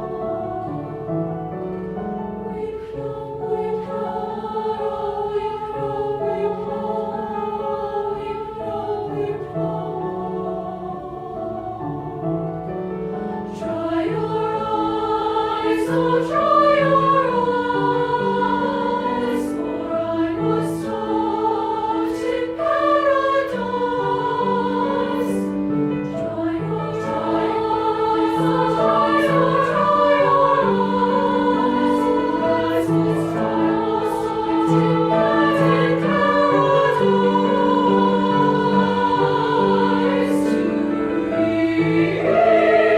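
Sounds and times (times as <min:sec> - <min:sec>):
choir singing in chords: 0:00.0 - 0:42.9.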